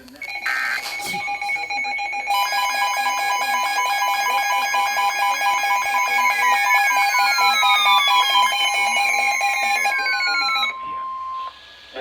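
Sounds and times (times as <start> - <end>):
rapid pulsing beeps: 0.0 - 11.7
steady alert tone: 0.2 - 11.4.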